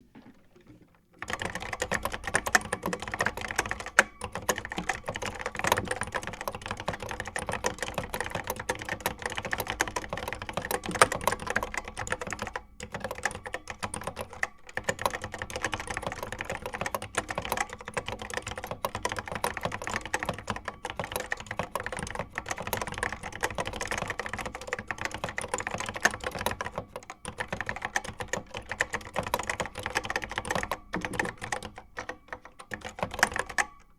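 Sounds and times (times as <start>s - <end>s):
keyboard typing: 0.6s - 33.9s.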